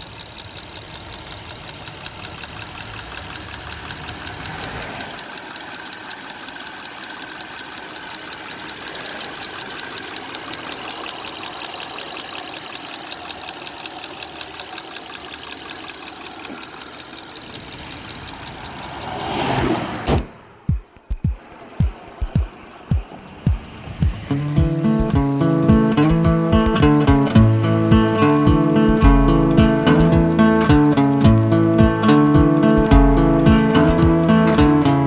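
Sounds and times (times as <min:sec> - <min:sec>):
car engine running: 0:00.0 - 0:19.1, 0:20.7 - 0:35.0
rapid engine ticking: 0:00.0 - 0:19.5, 0:20.6 - 0:35.0.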